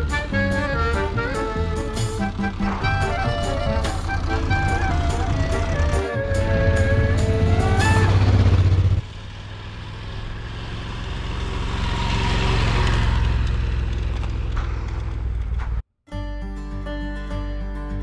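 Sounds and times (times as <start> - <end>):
loud steady engine: 0.0 - 15.8
motorcycles passing on dirt road: 0.0 - 15.8.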